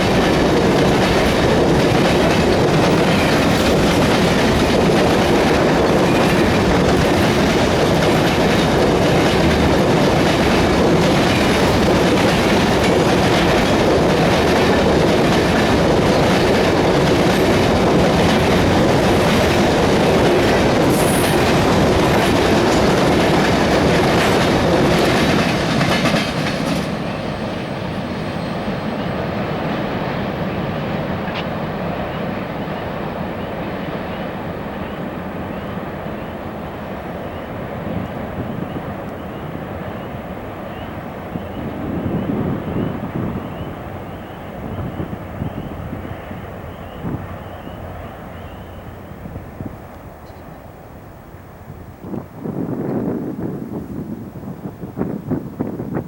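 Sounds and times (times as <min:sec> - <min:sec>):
wheels clacking over rail joints: 0:00.0 - 0:50.8
freight train rumble: 0:00.0 - 0:56.0.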